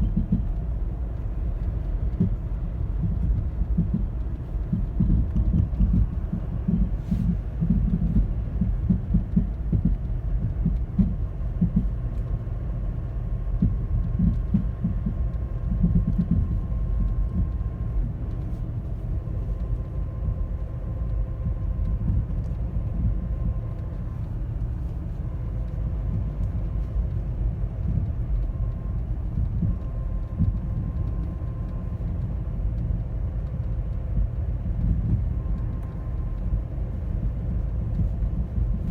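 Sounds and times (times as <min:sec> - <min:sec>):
faint steady whine: 0:00.0 - 0:38.9
low engine rumble: 0:00.0 - 0:38.9.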